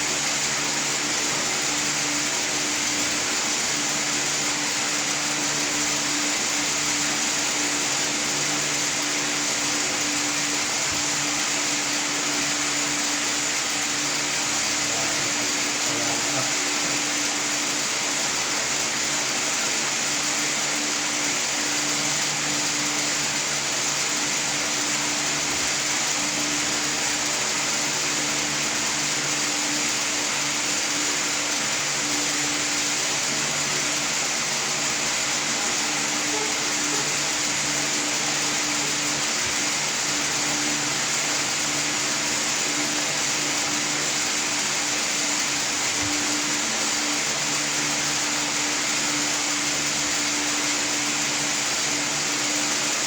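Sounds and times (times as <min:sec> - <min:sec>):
small motor machine running: 0:00.0 - 0:53.0.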